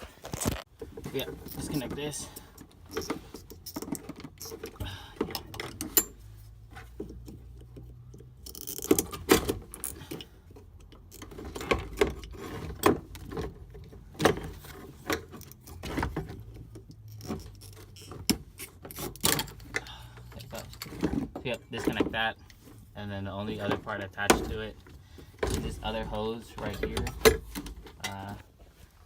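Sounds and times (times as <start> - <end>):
hands clicking and rattling parts: 0.0 - 22.7, 23.5 - 28.6.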